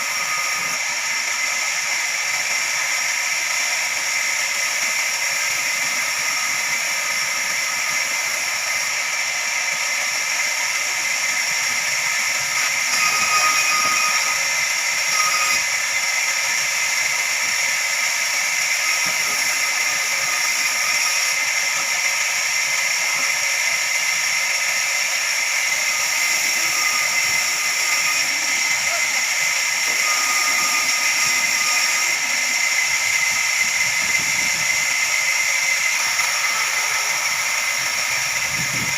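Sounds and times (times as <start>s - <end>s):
band saw blade whine: 0.0s - 38.9s.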